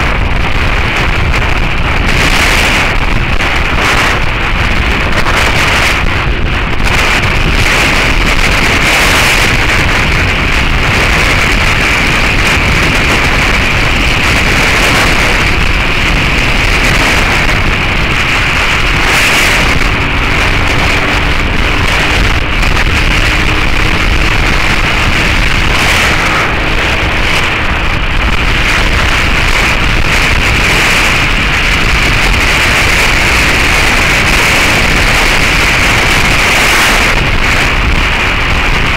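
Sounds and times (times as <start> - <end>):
motorcycle engine: 0.0 - 38.9
wind noise on microphone: 0.0 - 38.9.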